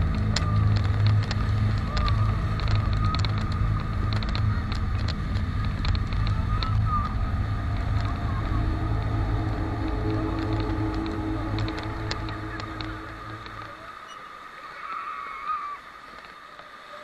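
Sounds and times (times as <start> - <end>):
engine running: 0.0 - 14.6.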